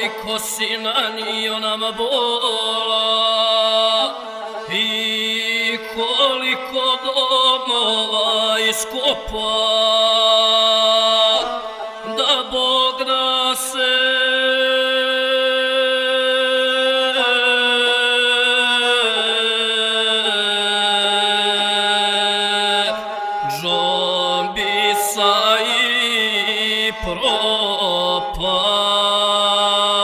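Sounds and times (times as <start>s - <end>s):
bowed string instrument melody: 0.0s - 29.8s.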